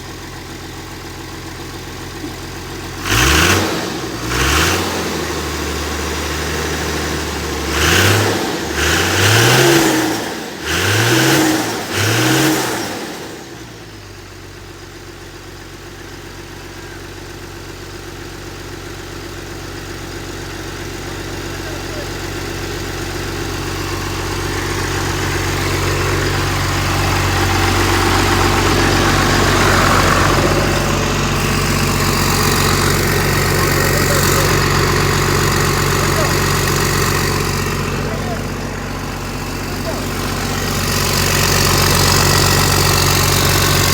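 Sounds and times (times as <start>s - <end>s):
diesel engine revving and idling: 0.0s - 43.9s.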